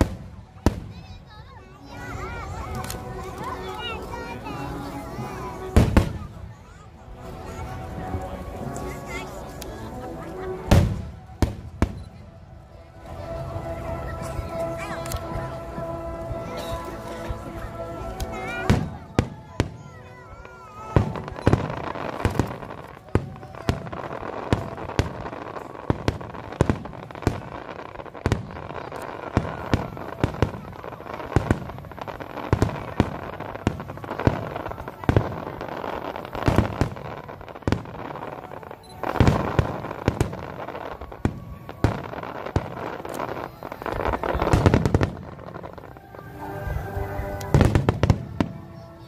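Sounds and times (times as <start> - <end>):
fireworks bangs: 0.0 - 12.4, 13.0 - 49.0
fireworks crackling: 0.0 - 49.0.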